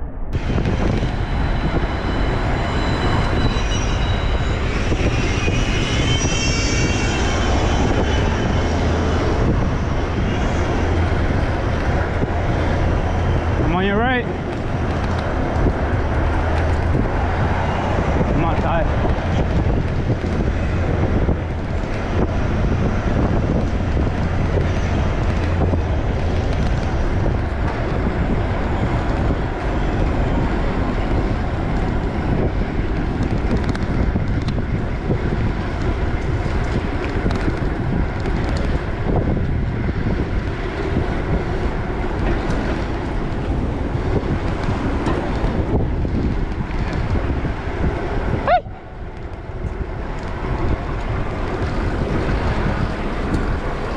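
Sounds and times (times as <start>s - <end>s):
street traffic: 0.0s - 53.9s
wind rushing over microphone: 0.0s - 53.9s.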